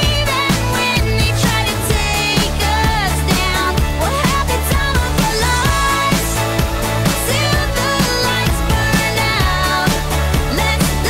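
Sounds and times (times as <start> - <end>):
pop song with singing: 0.0 - 11.0.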